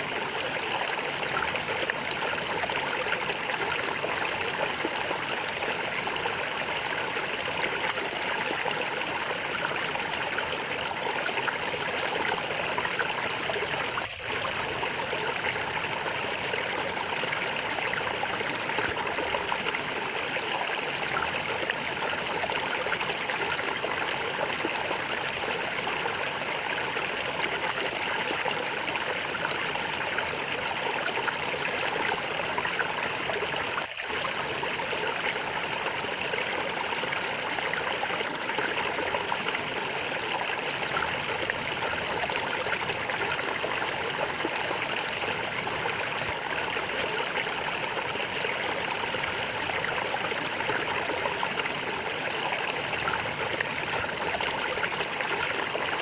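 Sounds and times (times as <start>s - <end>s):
stream gurgling and trickling: 0.0s - 56.0s.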